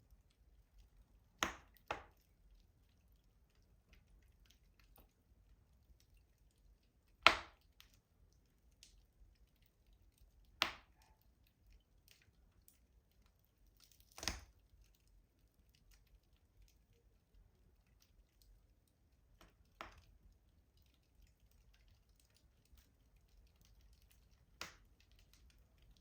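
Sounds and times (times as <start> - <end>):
faint fire crackles: 0.0 - 26.0
wood fire popping: 0.0 - 26.0.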